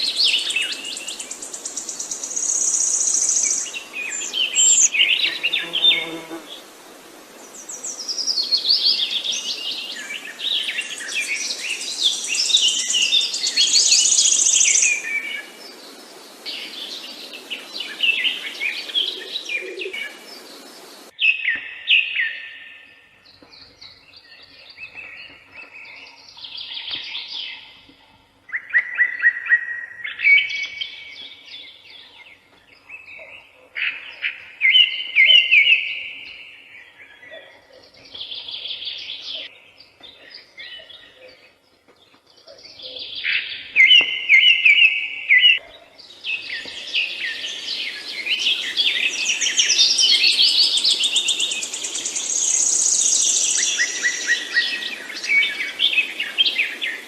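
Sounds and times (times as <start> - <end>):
songbirds singing and chirping: 0.0 - 6.7, 7.3 - 57.0.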